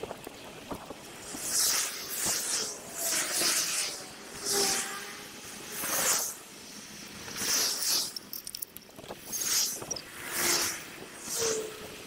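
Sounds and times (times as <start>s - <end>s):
wind and road noise rushes: 0.0s - 12.0s.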